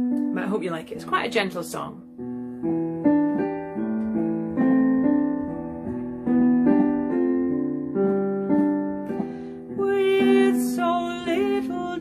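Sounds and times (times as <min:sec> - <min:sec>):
gentle piano: 0:00.0 - 0:12.0.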